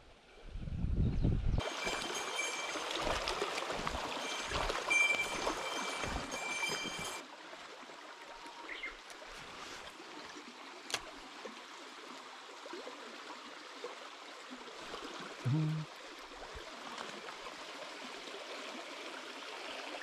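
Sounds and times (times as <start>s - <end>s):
stream running over gravel: 1.6s - 20.0s.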